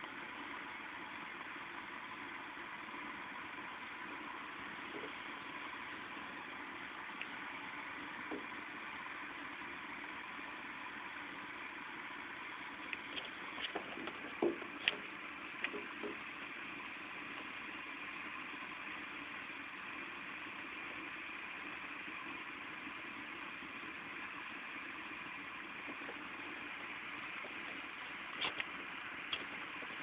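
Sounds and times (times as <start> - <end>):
rain hissing: 0.0 - 30.0.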